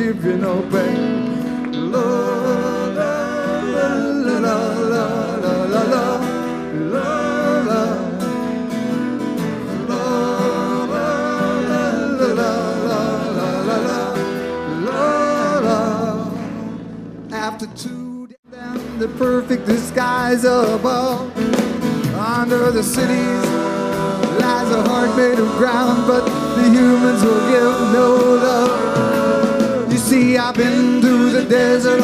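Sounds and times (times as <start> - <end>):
wordless vocal refrain: 0.0 - 8.7, 9.5 - 17.0, 22.1 - 32.0
strummed acoustic guitars: 0.0 - 32.0.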